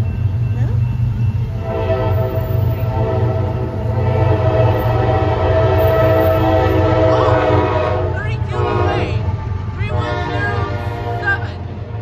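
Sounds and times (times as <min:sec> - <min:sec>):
steady low train rumble: 0:00.0 - 0:12.0
locomotive air horn blast: 0:01.5 - 0:09.3, 0:09.9 - 0:12.0.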